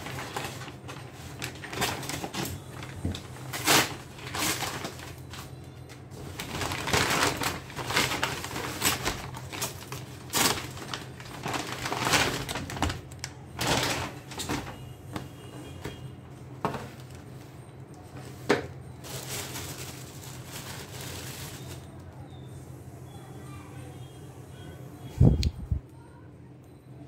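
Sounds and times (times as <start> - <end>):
paper bag rustling and crinkling: 0.0 - 16.0, 16.6 - 22.2.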